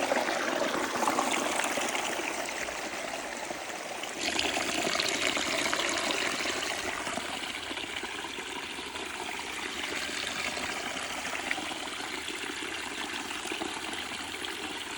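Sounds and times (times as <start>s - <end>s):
water trickling and flowing: 0.0s - 14.9s.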